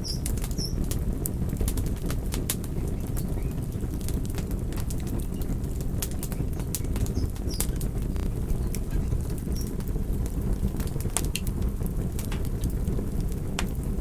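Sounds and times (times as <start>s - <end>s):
campfire roaring: 0.0s - 14.0s
wood crackling and popping: 0.0s - 14.0s.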